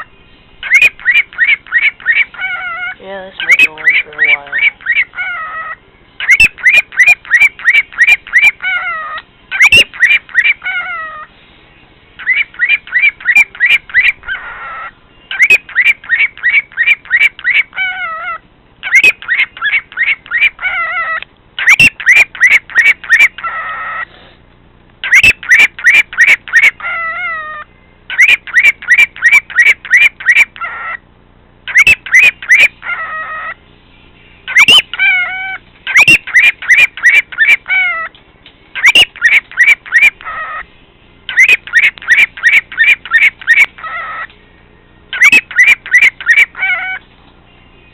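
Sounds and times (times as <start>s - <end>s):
cockatiel chirping: 0.0s - 11.3s, 12.2s - 24.1s, 25.0s - 31.0s, 31.7s - 33.6s, 34.5s - 38.1s, 38.8s - 40.6s, 41.3s - 44.3s, 45.1s - 47.0s.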